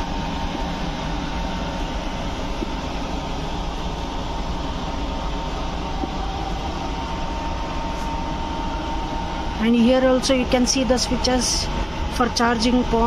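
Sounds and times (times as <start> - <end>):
train coach rumble and hum: 0.0 - 13.0.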